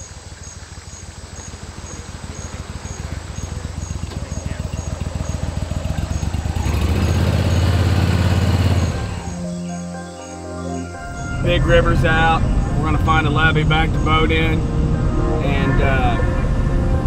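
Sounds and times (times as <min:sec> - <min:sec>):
boat motors running: 0:00.0 - 0:17.0.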